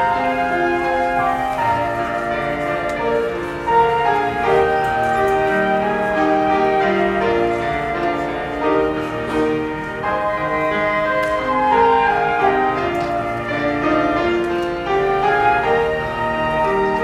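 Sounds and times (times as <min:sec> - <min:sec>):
flutes playing a hymn melody: 0:00.0 - 0:17.0
lower accompaniment: 0:00.0 - 0:17.0.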